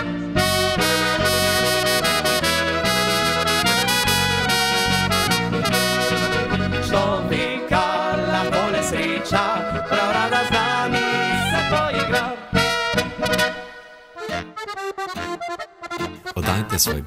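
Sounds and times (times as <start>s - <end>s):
folk-pop ensemble playing: 0.0s - 17.0s.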